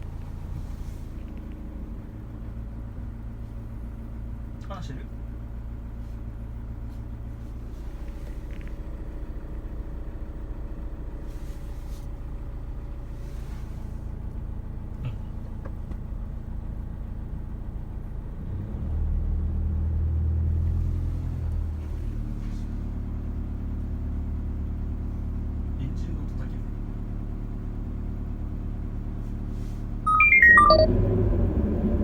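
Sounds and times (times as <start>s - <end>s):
van engine rumbling: 0.0s - 32.0s.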